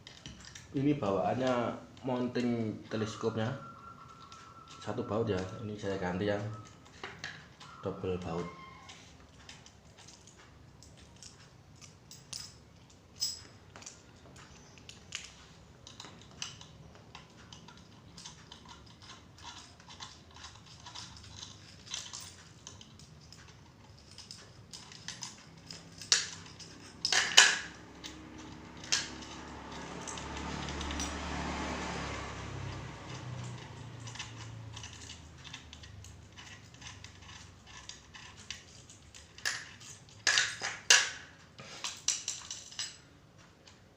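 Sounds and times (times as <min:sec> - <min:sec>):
small metal parts clicking: 0:00.0 - 0:43.9.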